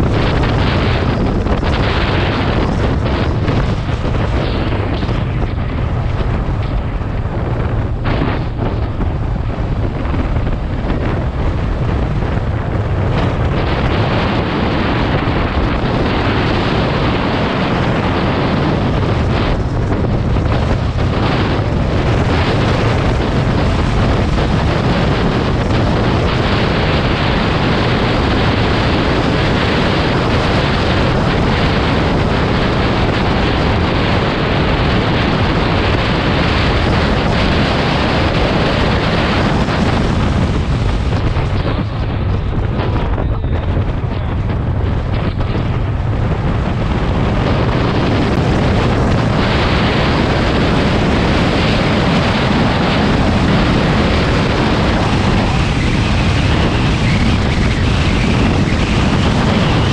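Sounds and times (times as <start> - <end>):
moving vehicle rumble: 0.0 - 59.9
wind buffeting microphone: 0.0 - 59.9.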